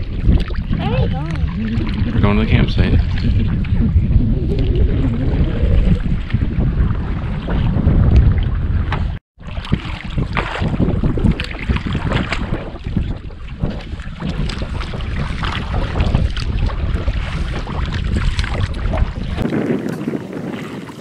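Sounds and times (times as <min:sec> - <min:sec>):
paddle splashing in water: 0:00.0 - 0:21.0
wind buffeting microphone: 0:00.0 - 0:21.0.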